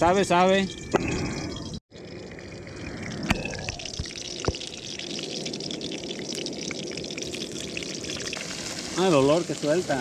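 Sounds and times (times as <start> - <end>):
oil bubbling and crackling: 1.0 - 10.0.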